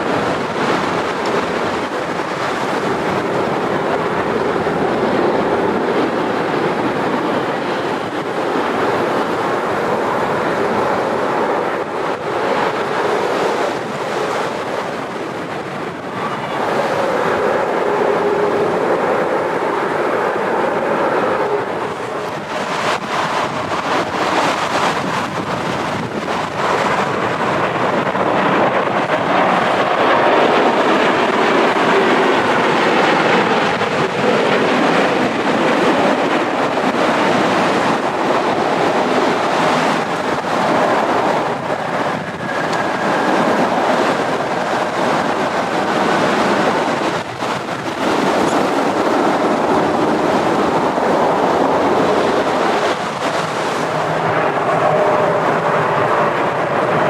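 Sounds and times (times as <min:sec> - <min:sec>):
jet engine roar: 0:00.0 - 0:57.0
wind buffeting microphone: 0:00.0 - 0:57.0.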